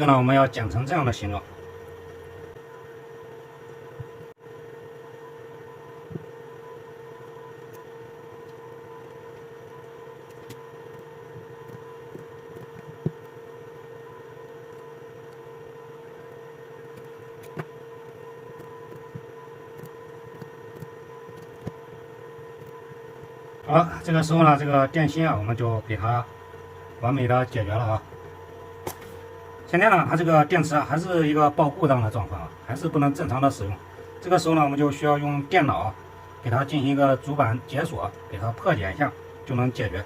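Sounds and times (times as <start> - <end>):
electrical hum: 0.0 - 40.0.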